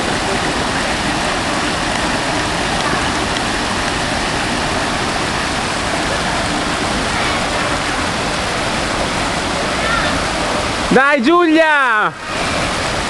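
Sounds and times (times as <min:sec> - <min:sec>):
water rushing over rock: 0:00.0 - 0:13.0.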